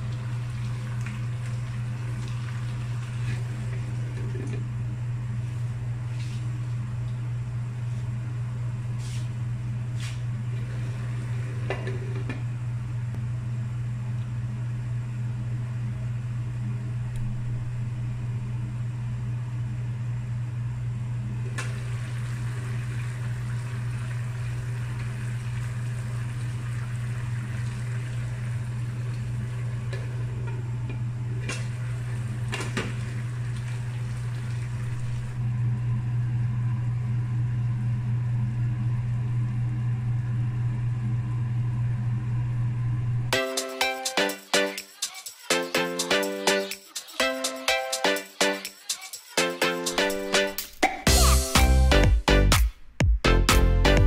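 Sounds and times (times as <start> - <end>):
appliance fan humming: 0.0 - 52.5.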